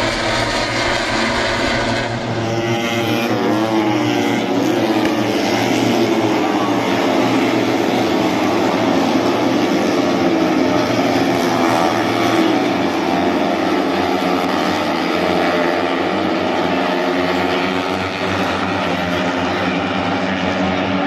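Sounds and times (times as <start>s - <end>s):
racing motorcycle engine drone: 0.0s - 21.0s.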